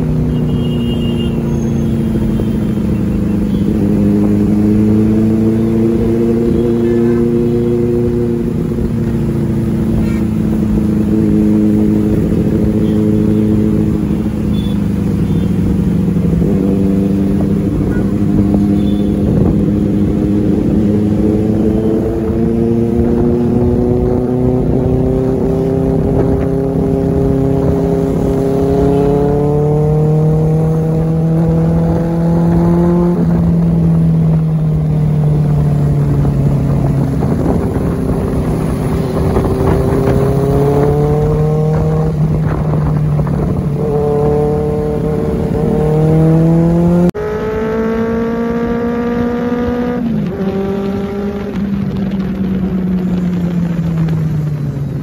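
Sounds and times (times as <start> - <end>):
motorcycle accelerating through gears: 1.3 - 55.0.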